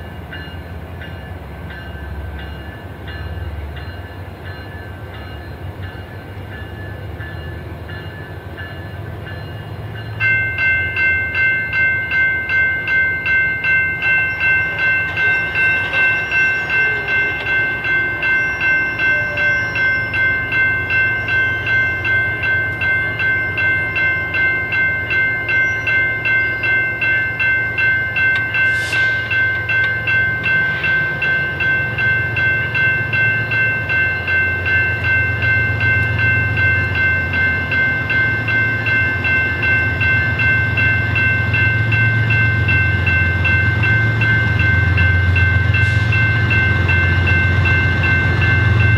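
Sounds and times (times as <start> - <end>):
crossing warning bell ringing: 0.0 - 48.9
freight train rumble: 0.0 - 48.9.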